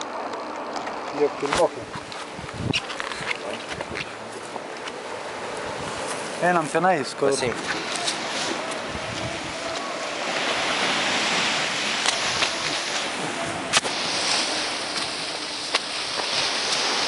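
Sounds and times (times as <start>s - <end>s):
sea surf washing against rocks: 0.0s - 17.0s.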